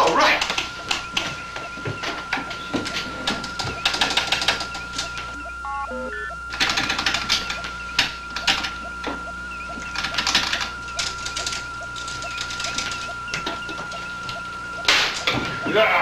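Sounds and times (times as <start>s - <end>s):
electronic clicking and chattering: 0.0s - 16.0s
small electronic chirps: 0.0s - 16.0s
steady high electronic tone: 0.0s - 16.0s.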